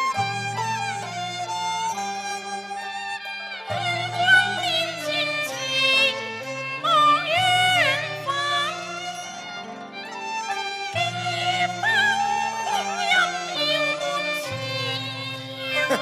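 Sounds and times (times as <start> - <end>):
opera song with sliding notes: 3.1 - 16.0.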